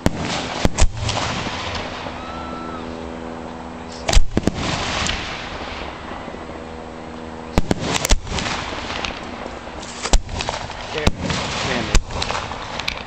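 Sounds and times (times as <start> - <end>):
fireworks booming: 0.0 - 2.8, 4.0 - 6.3, 7.5 - 13.0.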